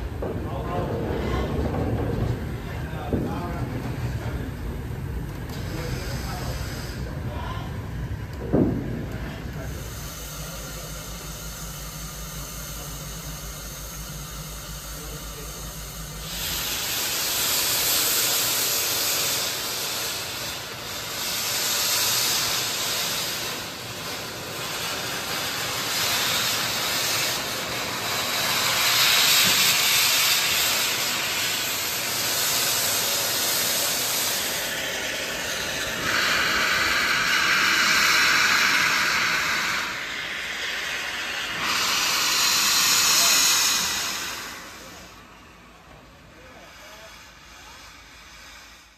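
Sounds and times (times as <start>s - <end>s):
steam locomotive hissing steam: 0.0s - 48.9s.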